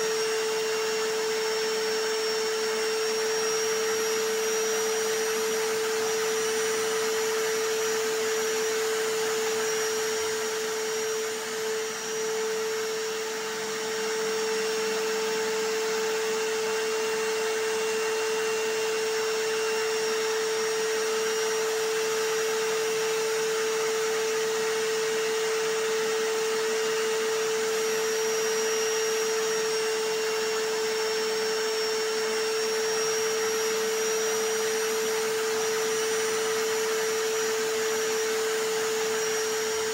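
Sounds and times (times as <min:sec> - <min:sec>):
hammer drill whine: 0:00.0 - 0:39.9
vacuum cleaner: 0:00.0 - 0:39.9.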